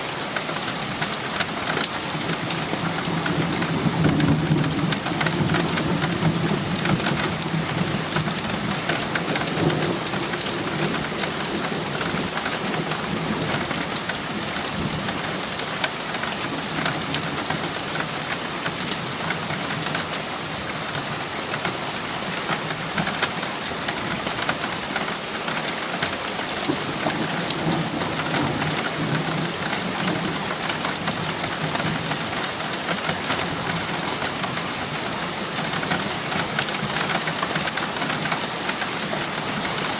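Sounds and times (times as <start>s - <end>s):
heavy rain falling: 0.0s - 39.9s
close raindrops ticking: 0.1s - 39.9s.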